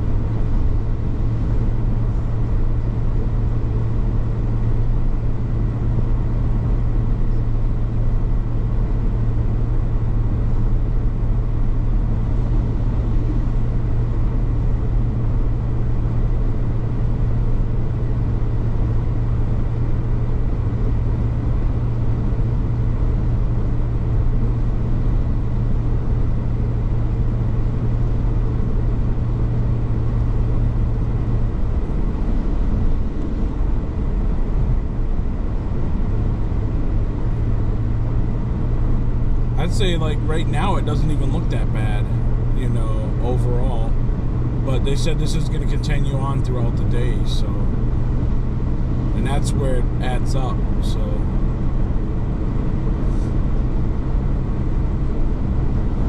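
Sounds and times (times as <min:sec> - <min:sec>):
constant low hum: 0:00.0 - 0:56.0
road and engine noise in car: 0:00.0 - 0:56.0.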